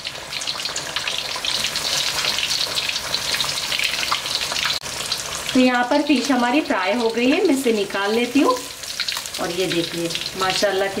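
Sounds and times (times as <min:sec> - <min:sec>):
fish deep-frying in oil: 0:00.0 - 0:11.0.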